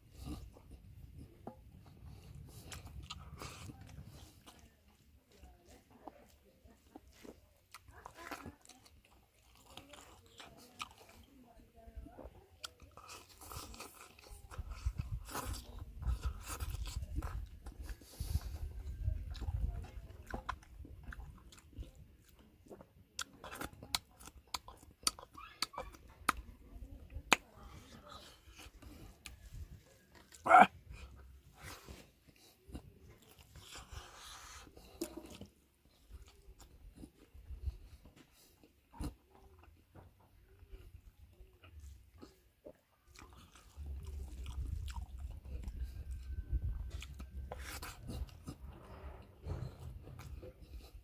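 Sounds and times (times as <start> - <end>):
person chewing crunchy food: 0.0 - 5.0, 5.7 - 11.3, 12.6 - 39.8, 40.7 - 51.0.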